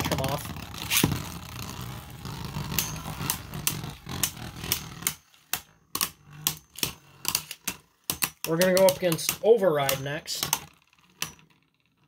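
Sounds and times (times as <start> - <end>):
spinning tops clicking: 0.0 - 11.7
spinning tops whirring: 0.0 - 12.0.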